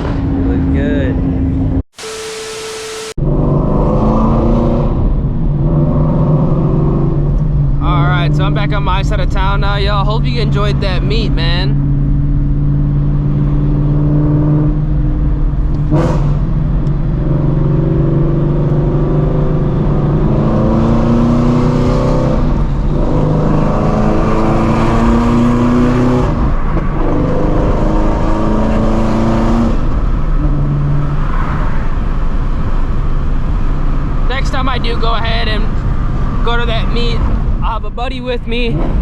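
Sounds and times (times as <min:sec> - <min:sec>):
car engine revving through gears: 0:02.0 - 0:34.7, 0:38.7 - 0:39.0.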